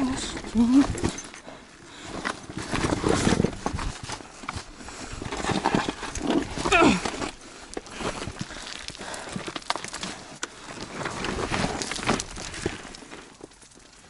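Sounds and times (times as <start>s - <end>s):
footsteps on loose rocks: 0.0s - 14.0s.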